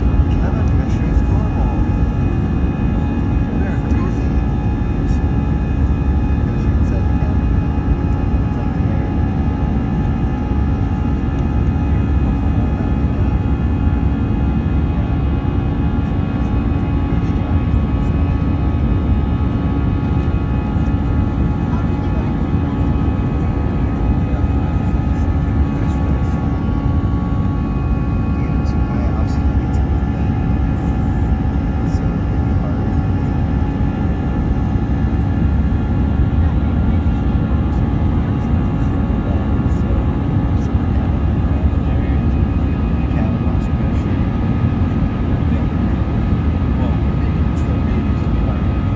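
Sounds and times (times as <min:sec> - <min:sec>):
jet engines rumbling: 0:00.0 - 0:48.9
steady engine tones: 0:00.0 - 0:48.9.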